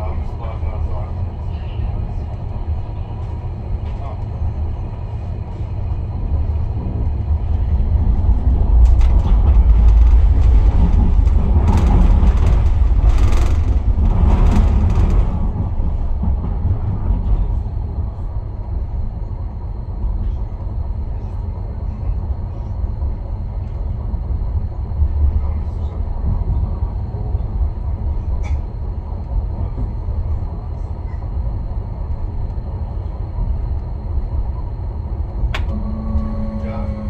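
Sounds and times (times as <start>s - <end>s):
tram rumbling: 0.0s - 37.0s.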